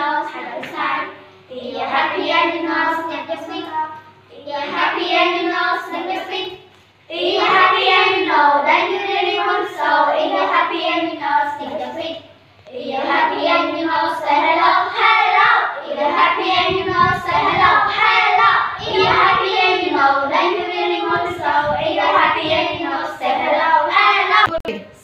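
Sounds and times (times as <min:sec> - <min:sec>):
girls singing a children's song: 0:00.0 - 0:24.7.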